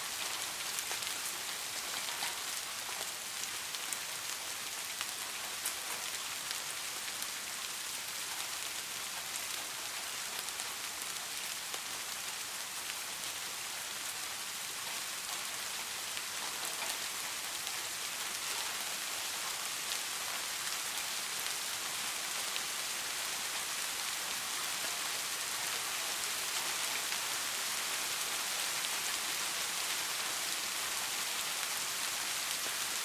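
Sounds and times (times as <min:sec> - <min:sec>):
raindrops ticking on a surface: 0:00.0 - 0:33.0
steady rainfall: 0:00.0 - 0:33.0.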